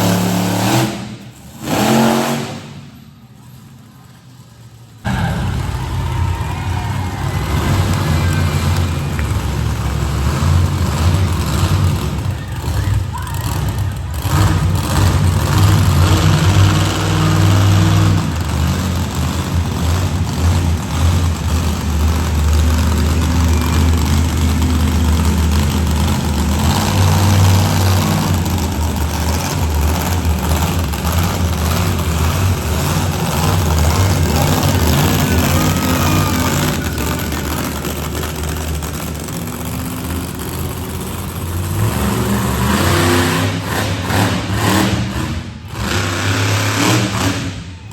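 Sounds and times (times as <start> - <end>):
truck engines revving loudly: 0.0 - 47.9.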